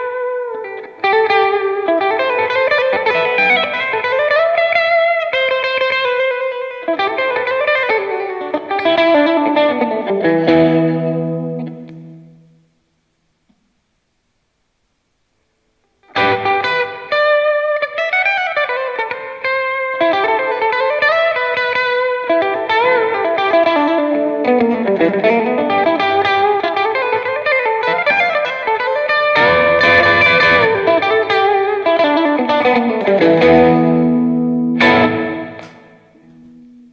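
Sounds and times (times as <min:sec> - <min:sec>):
electric guitar lead line: 0:00.0 - 0:12.6, 0:16.1 - 0:36.9.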